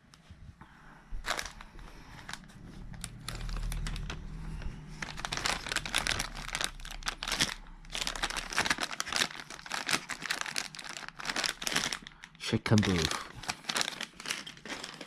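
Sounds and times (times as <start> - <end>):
plastic packets crinkling: 1.2 - 15.0.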